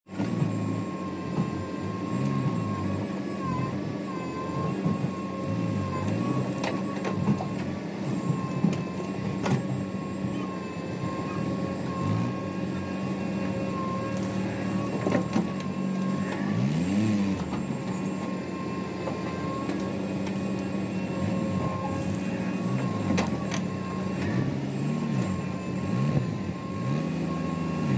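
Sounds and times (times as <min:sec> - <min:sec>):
diesel machinery running: 0:00.1 - 0:27.9.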